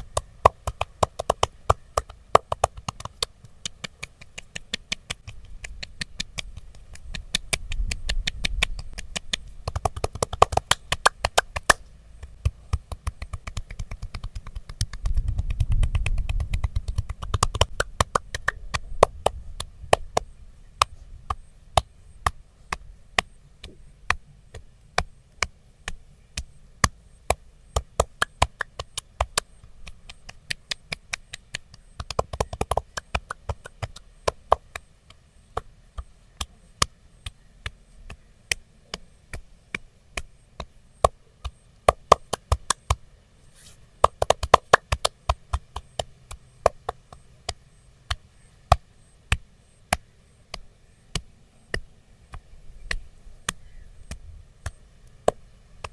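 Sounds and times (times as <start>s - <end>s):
wooden sticks tapping on body: 0.0s - 43.0s, 43.6s - 55.9s.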